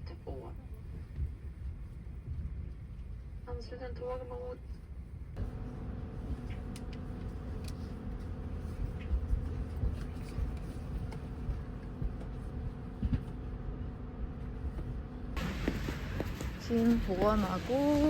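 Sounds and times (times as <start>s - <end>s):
faint steady hum: 0.0s - 18.0s
train rumble: 0.0s - 18.0s.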